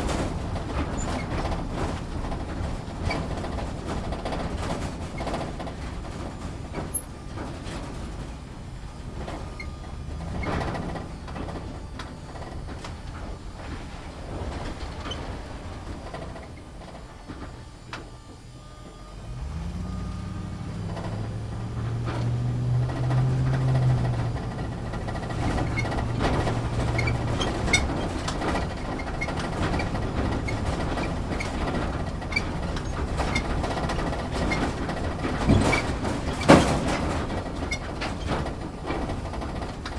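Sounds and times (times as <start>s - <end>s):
vehicle body rattling and knocking: 0.0s - 18.5s, 20.4s - 39.9s
vehicle engine rumbling: 0.0s - 39.9s.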